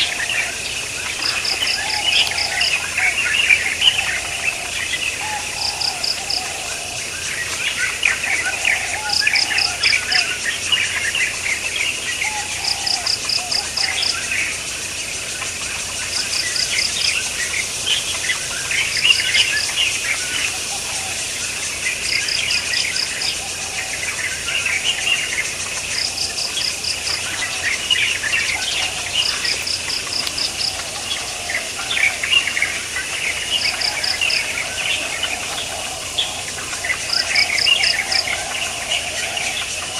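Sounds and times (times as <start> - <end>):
birds chirping: 0.0 - 39.9
insects calling: 0.0 - 39.9.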